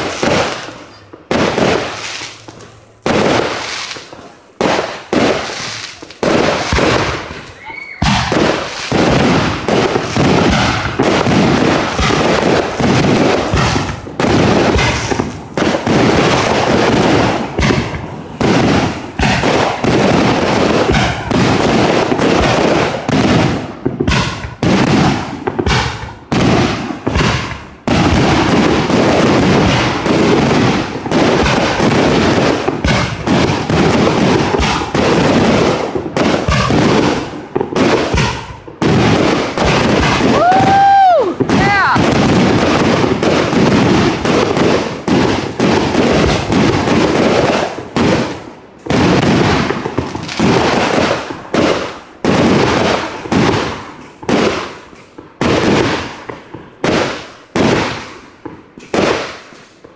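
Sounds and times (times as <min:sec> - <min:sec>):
firework shells bursting: 0:00.0 - 0:59.9.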